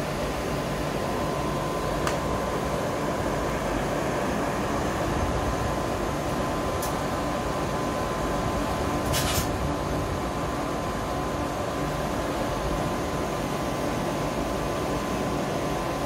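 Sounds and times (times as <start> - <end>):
constant high whine: 0.0 - 16.0
train hum and rumble: 0.0 - 16.0.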